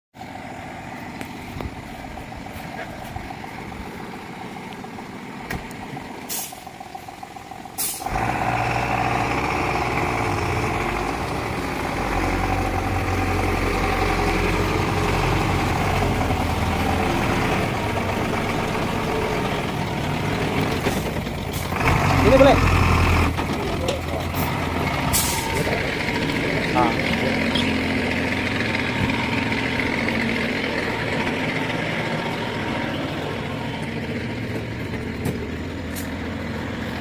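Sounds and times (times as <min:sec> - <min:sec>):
diesel engine running: 0:00.2 - 0:37.0.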